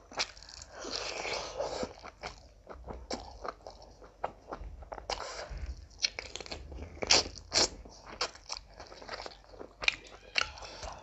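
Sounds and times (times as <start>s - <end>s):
wet mouth chewing: 0.0s - 11.0s.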